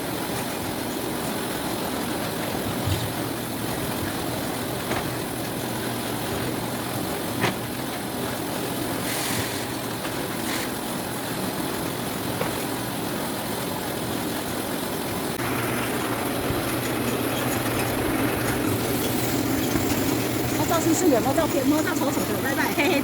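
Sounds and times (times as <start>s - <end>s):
sorting machine humming: 0.0s - 23.0s.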